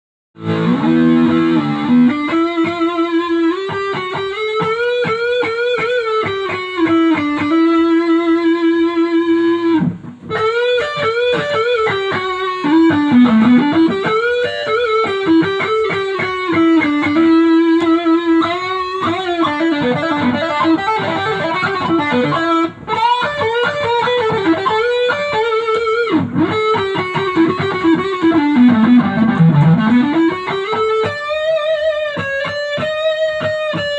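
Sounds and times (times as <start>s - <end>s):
electric guitar lead melody: 0.4s - 33.9s.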